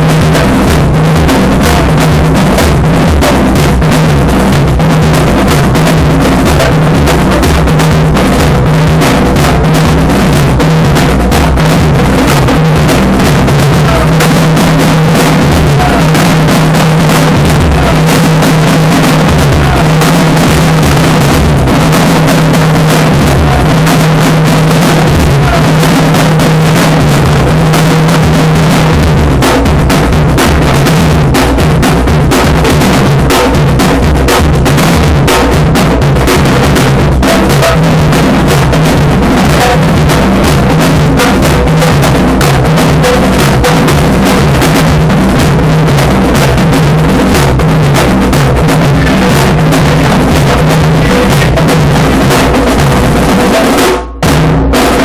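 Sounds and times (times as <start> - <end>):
bass drums: 0.0 - 55.0
marching snare drums: 0.0 - 55.0.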